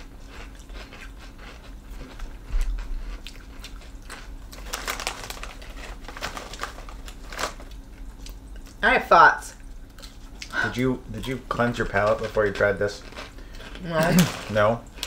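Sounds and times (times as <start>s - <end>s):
chewing crunchy snacks: 0.0s - 8.8s, 9.5s - 15.0s
snack bag rustling: 0.0s - 8.8s, 11.5s - 15.0s.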